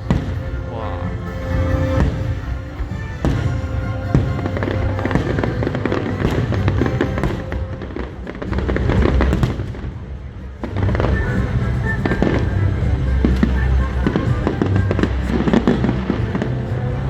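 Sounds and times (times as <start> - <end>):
fireworks crackling bursts: 0.0 - 16.8
music: 0.0 - 17.0.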